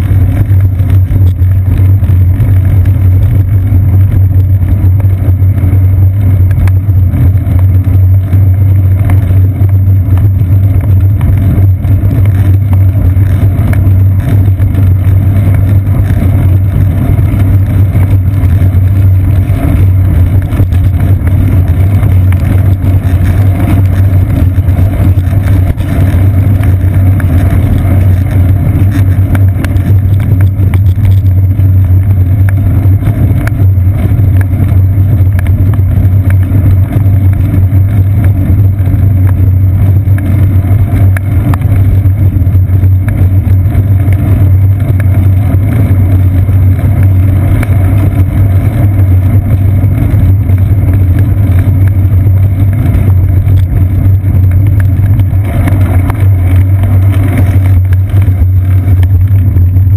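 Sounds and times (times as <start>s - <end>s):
wind and road vibration rumble: 0.0s - 59.9s.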